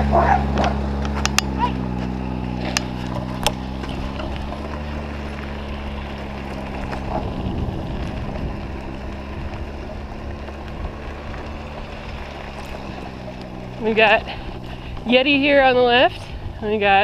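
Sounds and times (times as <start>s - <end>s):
motor humming: 0.0s - 17.0s
road or wind noise: 0.0s - 17.0s.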